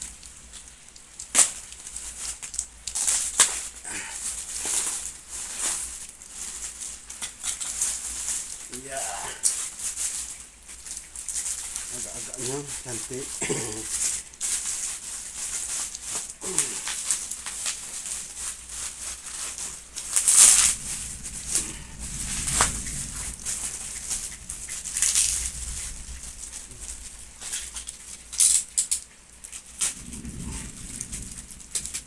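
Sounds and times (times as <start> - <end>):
packaging rustling and crinkling: 0.0 - 32.0.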